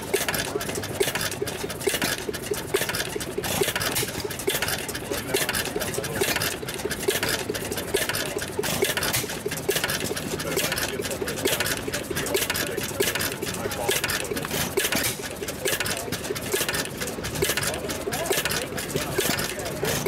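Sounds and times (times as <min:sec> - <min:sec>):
stationary gas engine ticking: 0:00.0 - 0:20.0.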